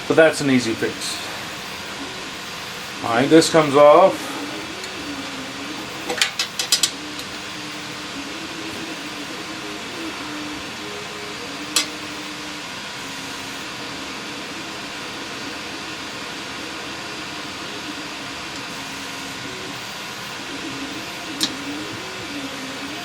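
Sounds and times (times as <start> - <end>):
steady fan-like hiss: 0.0 - 23.0.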